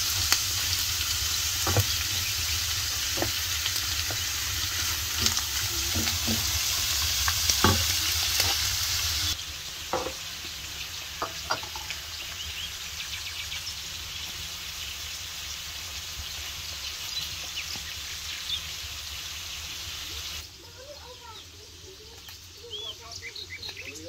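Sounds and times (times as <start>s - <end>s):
crackling hiss: 0.0s - 24.0s
small birds chirping: 0.2s - 9.4s, 10.2s - 24.0s.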